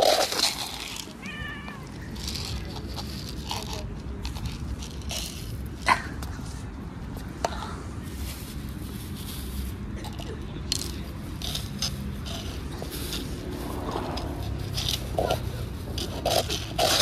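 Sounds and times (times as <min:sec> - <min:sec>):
cats crunching dry kibble: 0:00.0 - 0:06.6, 0:08.1 - 0:17.0.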